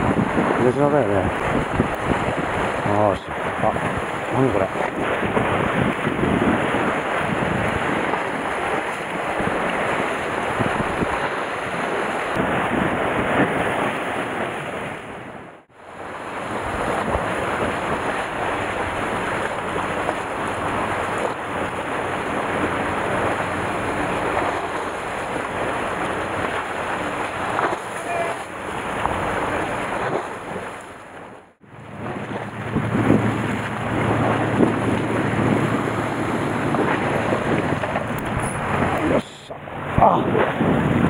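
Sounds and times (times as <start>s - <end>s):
sea surf splashing on concrete: 0.0s - 41.0s
wind buffeting microphone: 0.0s - 41.0s.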